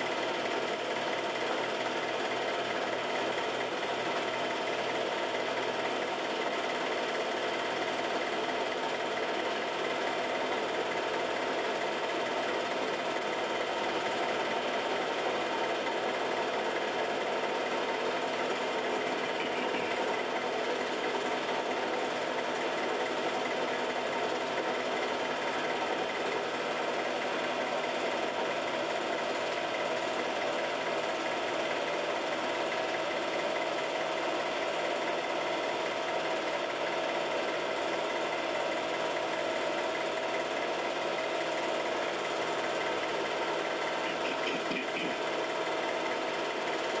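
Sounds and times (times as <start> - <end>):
film projector whirring and clattering: 0.0 - 47.0.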